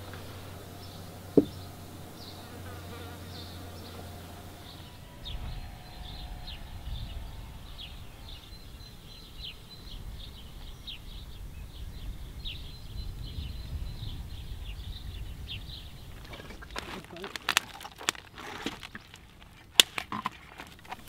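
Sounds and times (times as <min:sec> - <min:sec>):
steady low rumble: 0:00.0 - 0:19.7
small birds chirping: 0:00.0 - 0:21.0.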